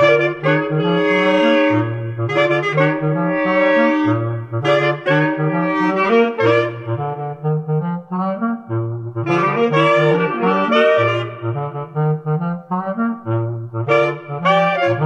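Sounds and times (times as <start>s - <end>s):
clarinet quartet playing jazz: 0.0s - 15.0s.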